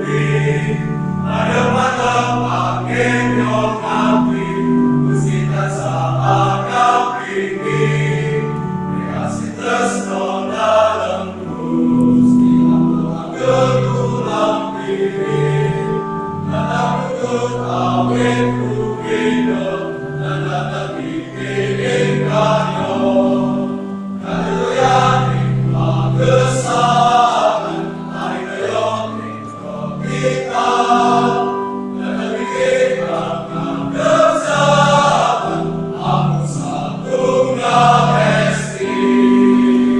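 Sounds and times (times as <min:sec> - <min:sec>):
male choir singing a hymn: 0:00.0 - 0:39.9.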